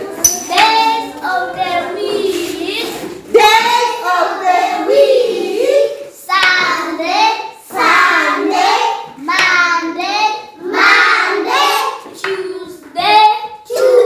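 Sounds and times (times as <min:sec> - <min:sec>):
children chanting sing-song: 0:00.0 - 0:14.0.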